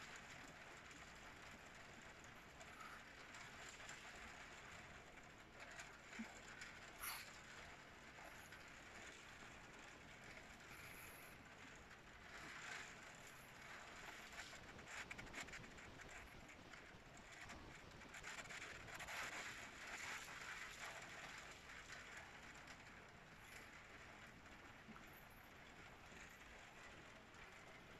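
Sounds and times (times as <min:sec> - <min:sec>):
heavy rain through window glass: 0:00.0 - 0:27.9.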